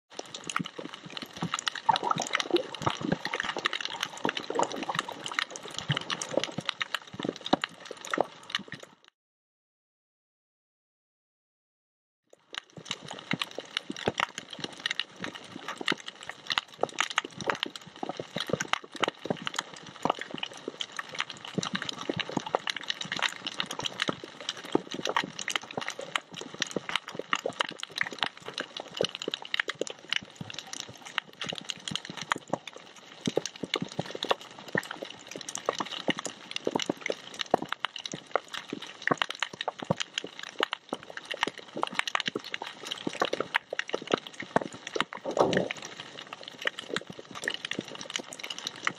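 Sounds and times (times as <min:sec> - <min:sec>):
snapping shrimp crackle: 0:00.2 - 0:08.7, 0:12.6 - 0:48.9.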